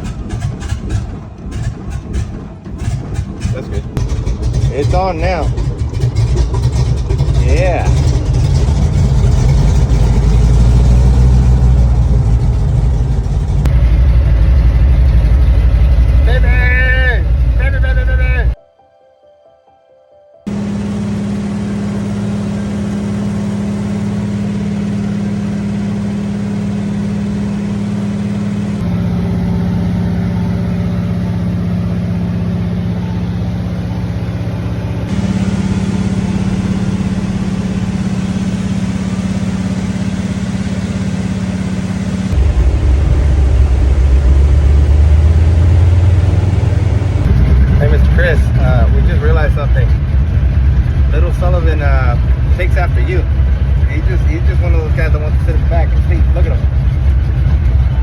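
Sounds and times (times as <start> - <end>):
light aircraft engine droning: 0.0 - 18.6, 20.5 - 58.0.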